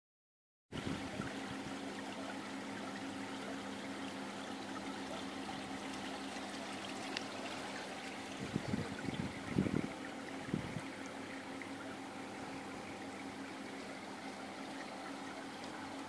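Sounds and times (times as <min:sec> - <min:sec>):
low steady hum: 0:00.8 - 0:16.0
water trickling: 0:00.8 - 0:16.0.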